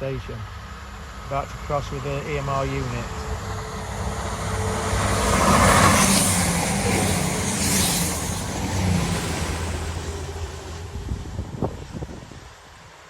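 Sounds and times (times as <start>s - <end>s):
diesel train passing: 0.0s - 13.0s
wheels rushing on rails: 0.4s - 13.0s.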